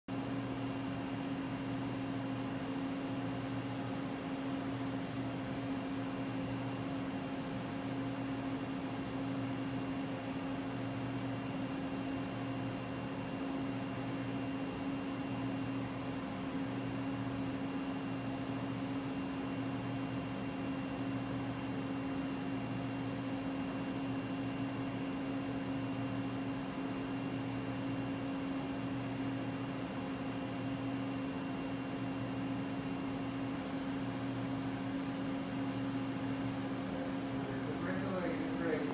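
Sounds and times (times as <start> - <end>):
low intermittent hum: 0.1 - 38.9
steady machine hum: 0.1 - 38.9.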